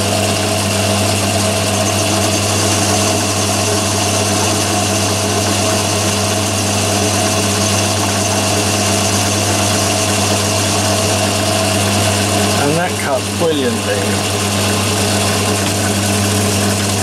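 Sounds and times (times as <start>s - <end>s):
lathe machine hum: 0.0s - 17.0s.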